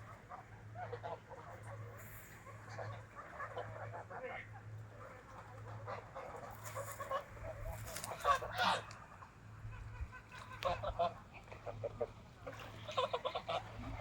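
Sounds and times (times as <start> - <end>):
geese calling: 0.0 - 14.0.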